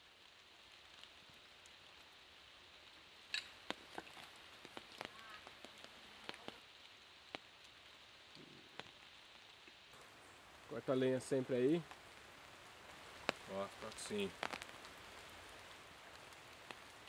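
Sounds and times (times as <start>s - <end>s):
rain on leaves: 0.0s - 17.0s
water drip ticks: 3.2s - 17.0s.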